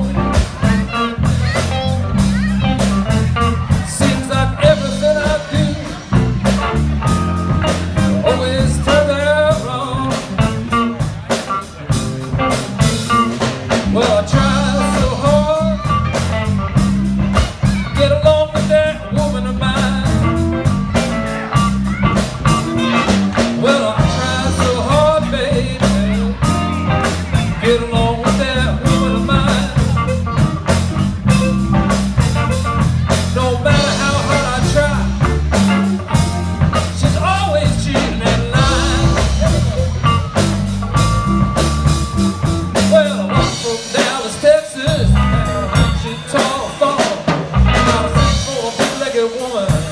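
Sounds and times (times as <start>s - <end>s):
blues band playing: 0.0s - 49.9s.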